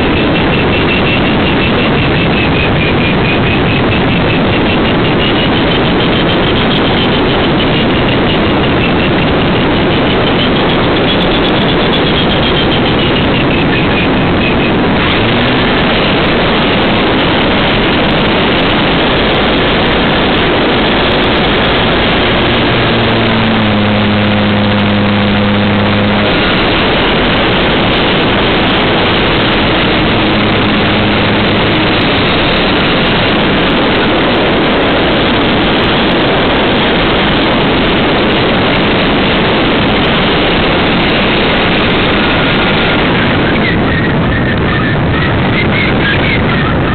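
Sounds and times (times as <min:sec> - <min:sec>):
propeller aircraft engine: 0:00.0 - 0:46.9
wavering high whine: 0:00.0 - 0:46.9
wind rush: 0:00.0 - 0:46.9.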